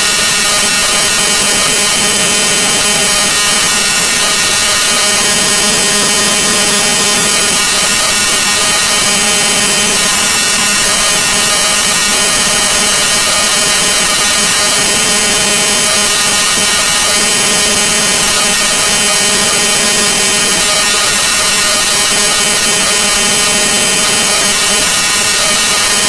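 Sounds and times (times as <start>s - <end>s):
harsh layered drone: 0.0s - 26.0s.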